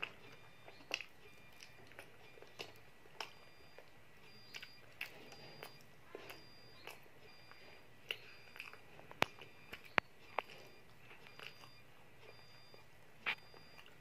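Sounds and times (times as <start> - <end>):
child chewing with wet smacks: 0.0 - 14.0.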